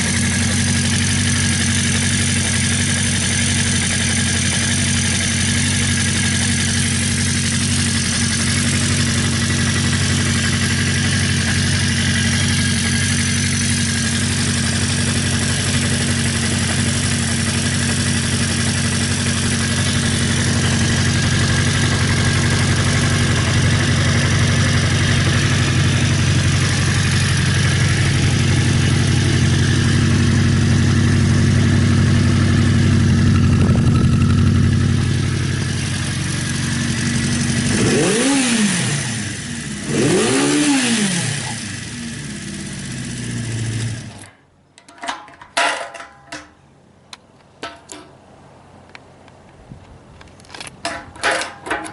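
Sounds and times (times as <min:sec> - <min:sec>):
motorcycle engine idling: 0:00.0 - 0:44.4.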